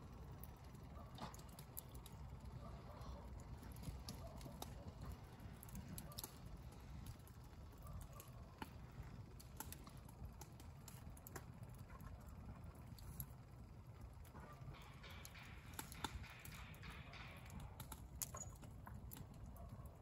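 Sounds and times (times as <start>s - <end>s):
faint small clicks and ticks: 0.0s - 20.0s
low steady rumble: 0.0s - 20.0s.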